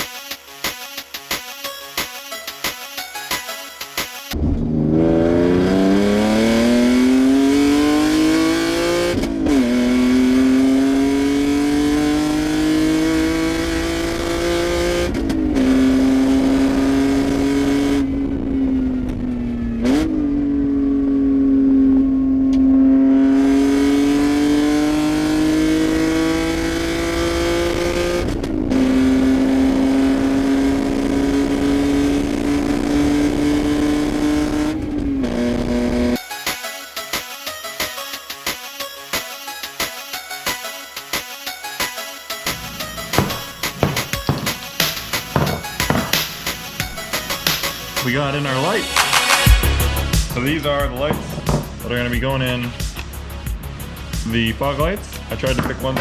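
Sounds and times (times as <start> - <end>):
car engine accelerating: 4.4 - 36.2, 42.5 - 56.0.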